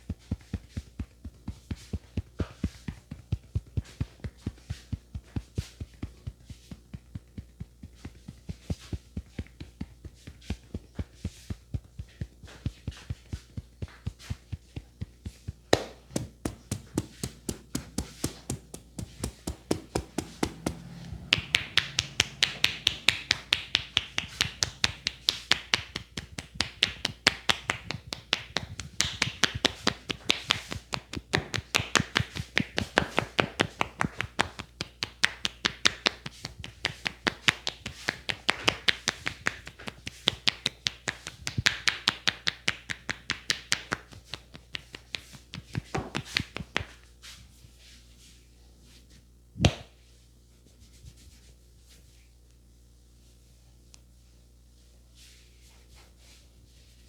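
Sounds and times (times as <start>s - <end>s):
hands tapping on head: 0.1s - 47.0s, 49.6s - 49.9s.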